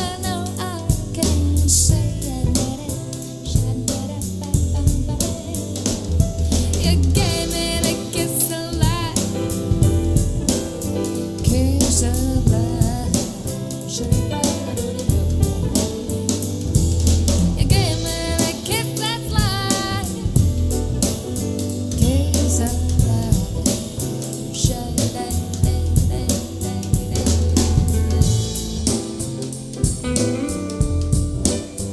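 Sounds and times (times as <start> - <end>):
bass line: 0.0 - 31.9
drum kit steady beat: 0.0 - 31.9
guitar: 0.0 - 31.9
soul jazz music: 0.0 - 31.9.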